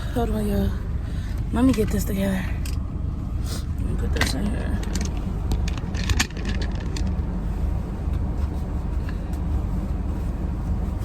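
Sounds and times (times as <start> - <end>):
car engine rumble inside cabin: 0.0 - 11.0.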